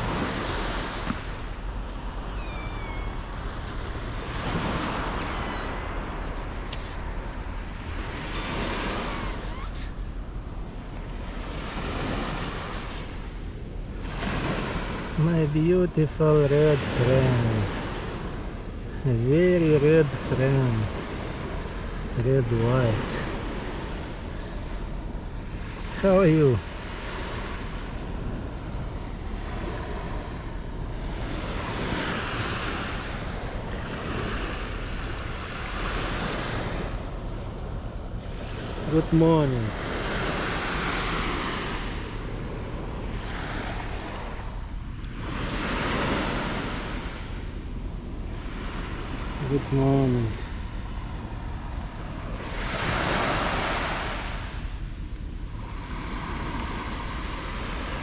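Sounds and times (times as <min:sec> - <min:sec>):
sea waves washing ashore: 0:00.0 - 0:58.0
wind rumble on microphone: 0:00.0 - 0:58.0.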